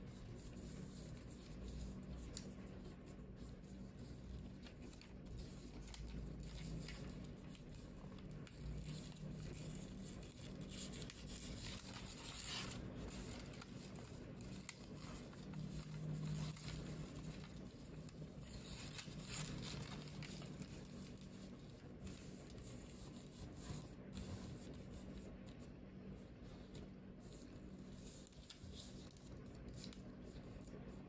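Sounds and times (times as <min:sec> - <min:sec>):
paper rustling and crinkling: 0:00.0 - 0:31.0.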